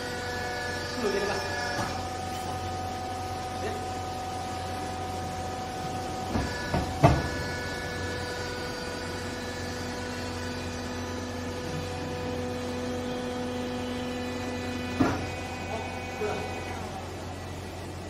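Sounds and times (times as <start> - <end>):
hydraulic unit humming: 0.0 - 18.0.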